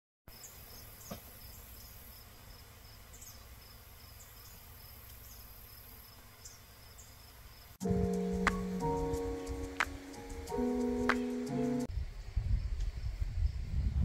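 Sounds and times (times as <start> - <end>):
insect chirping steadily: 0.3 - 13.8.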